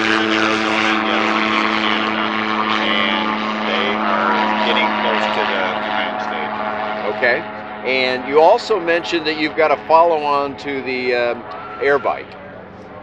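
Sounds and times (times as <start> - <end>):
light aircraft droning overhead: 0.0 - 13.0.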